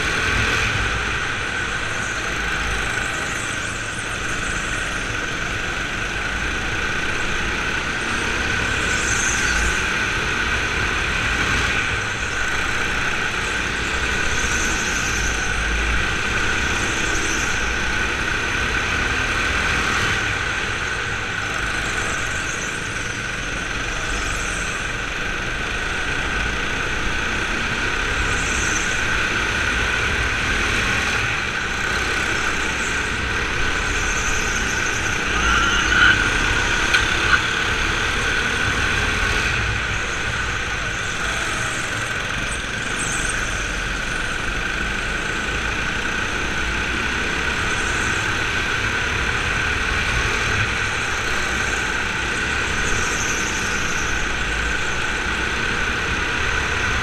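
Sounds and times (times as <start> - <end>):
go-kart motor running: 0.0 - 57.0.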